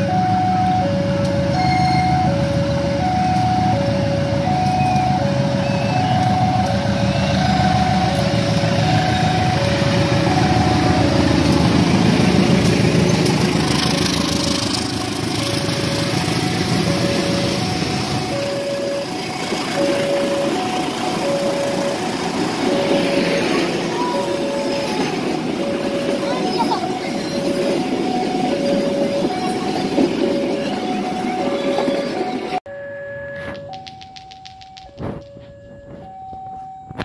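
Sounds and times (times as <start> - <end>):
locomotive engine running loud: 0.0 - 32.6
coach wheels rolling on rails: 0.6 - 32.6, 33.4 - 37.0.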